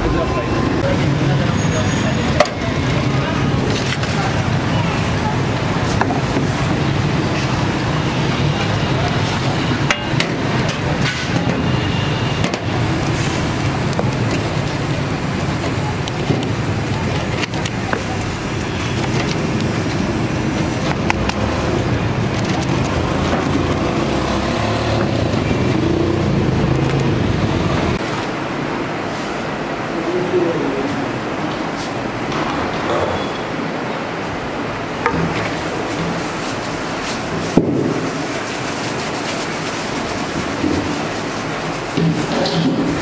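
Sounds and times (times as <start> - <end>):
busy kitchen din: 0.0 - 43.0
low traffic rumble: 0.0 - 43.0
motor vehicles passing: 0.0 - 43.0.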